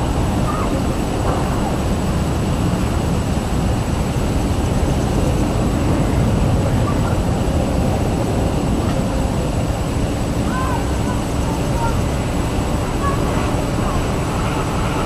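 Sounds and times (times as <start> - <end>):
rc helicopter drone: 0.0 - 15.0.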